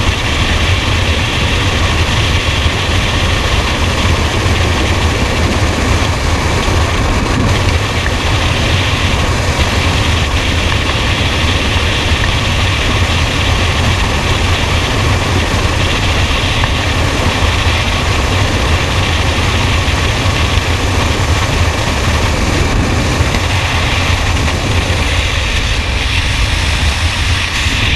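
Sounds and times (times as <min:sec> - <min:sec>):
heavy engine running: 0:00.0 - 0:27.9.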